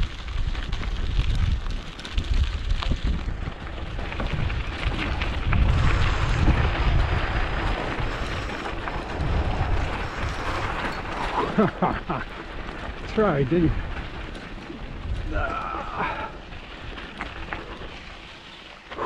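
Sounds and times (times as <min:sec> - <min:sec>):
wind buffeting microphone: 0:00.0 - 0:18.3
mountain bike rolling on dirt: 0:00.0 - 0:19.0.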